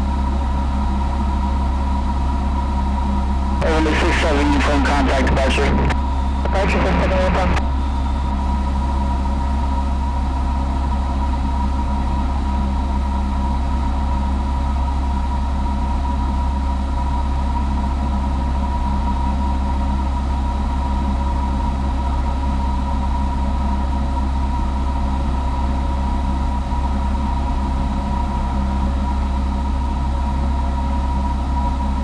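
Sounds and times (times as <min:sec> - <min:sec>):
propeller plane engine drone: 0:00.0 - 0:32.0.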